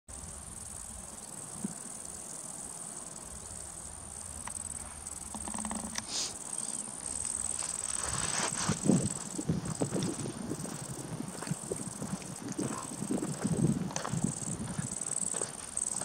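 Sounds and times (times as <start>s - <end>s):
insects chirring: 0.1s - 16.0s
rustle: 0.1s - 16.0s.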